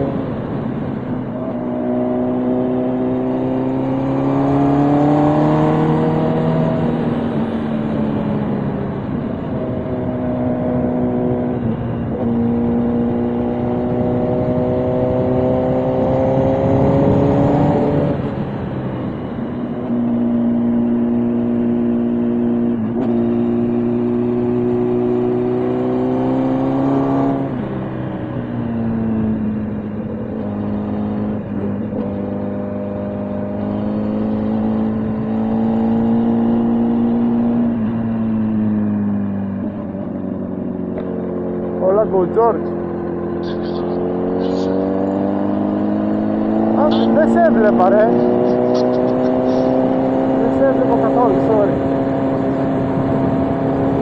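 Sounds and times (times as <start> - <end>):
motorcycle engine running: 5.5 - 54.0.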